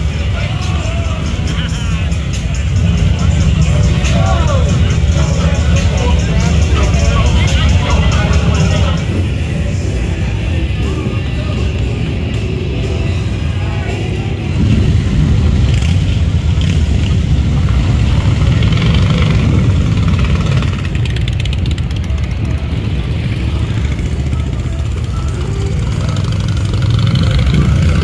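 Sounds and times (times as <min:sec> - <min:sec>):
background music: 0:00.0 - 0:28.0
motorcycle engines running: 0:00.0 - 0:28.0.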